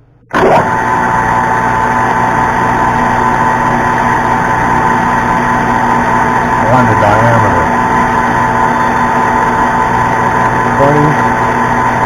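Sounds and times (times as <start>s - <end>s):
metal lathe whining: 0.3s - 12.0s.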